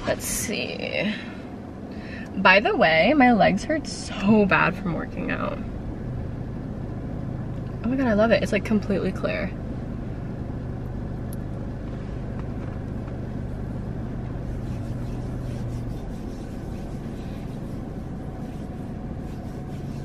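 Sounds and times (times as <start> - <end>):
car idling hum: 0.0 - 20.0.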